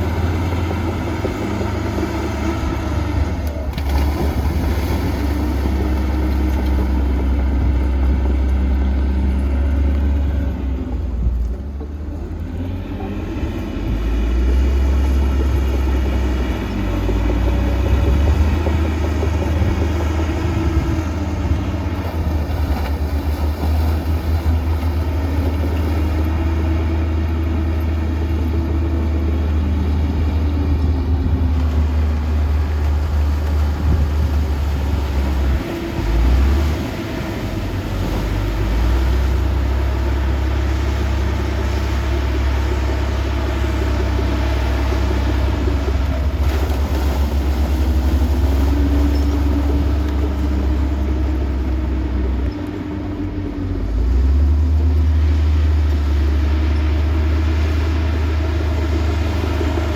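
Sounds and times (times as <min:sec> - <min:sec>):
diesel machinery engine rumble: 0:00.0 - 0:59.9.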